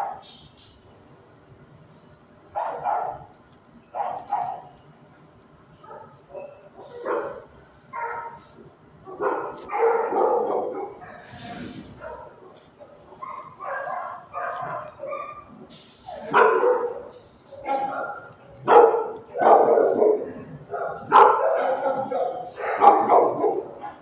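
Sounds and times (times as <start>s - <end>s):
dogs barking and yipping: 2.6s - 3.3s, 3.9s - 4.7s, 5.8s - 24.0s.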